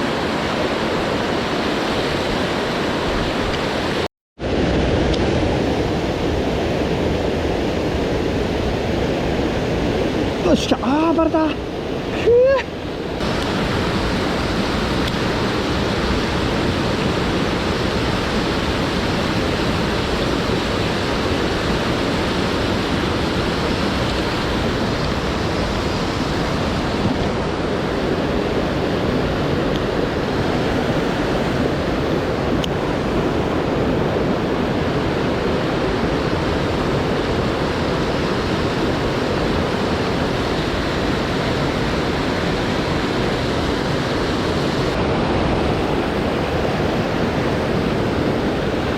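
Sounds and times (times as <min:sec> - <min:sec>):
mountain stream rushing: 0:00.0 - 0:48.9.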